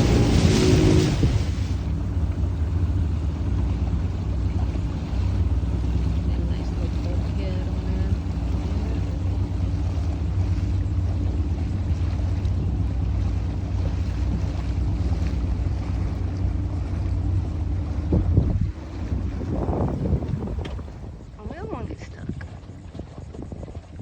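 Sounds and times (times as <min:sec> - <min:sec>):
outboard motor humming: 0:00.0 - 0:24.0
wind and water rushing: 0:00.0 - 0:24.0.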